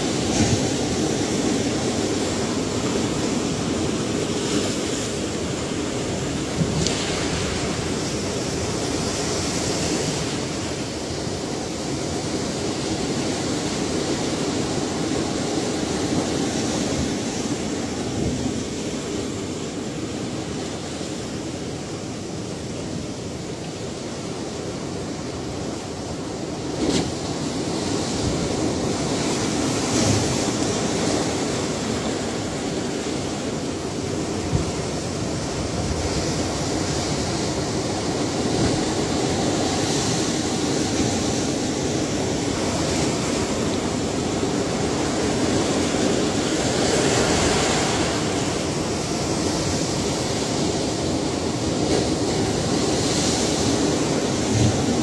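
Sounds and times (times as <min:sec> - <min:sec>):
ocean waves rushing: 0:00.0 - 0:55.0.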